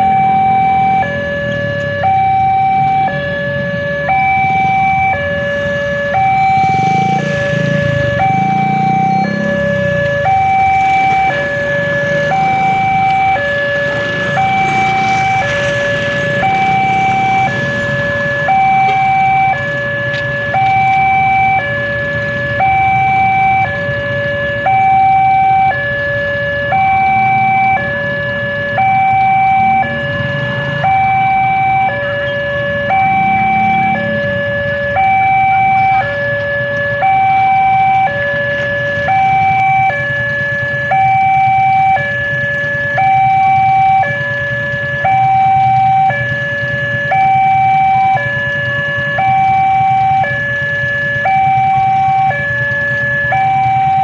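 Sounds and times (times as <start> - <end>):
two-tone crossing alarm: 0.0 - 54.0.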